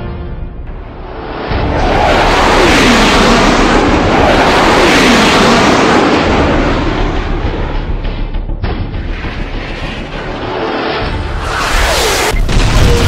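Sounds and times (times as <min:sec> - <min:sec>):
loud rushing roar: 0:00.7 - 0:13.0.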